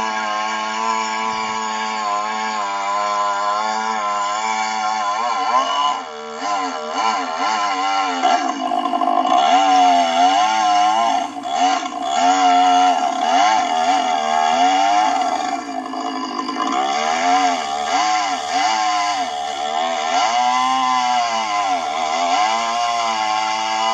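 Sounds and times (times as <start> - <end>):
chainsaw cutting log at high revs: 0.0 - 23.9.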